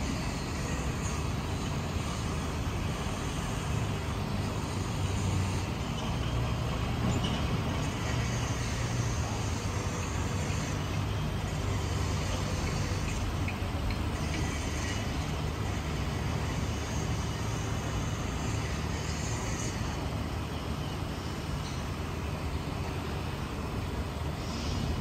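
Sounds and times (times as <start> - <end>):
distant road traffic rumble: 0.0 - 25.0.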